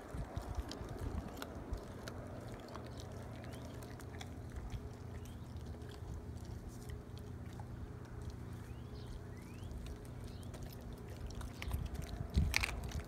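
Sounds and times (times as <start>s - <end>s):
puppy chewing bone crunches: 0.0s - 13.0s.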